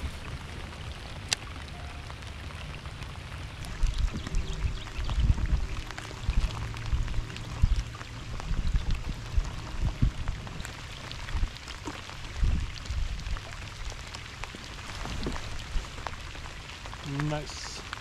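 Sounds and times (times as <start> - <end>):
heavy rain on a lake: 0.0 - 18.0.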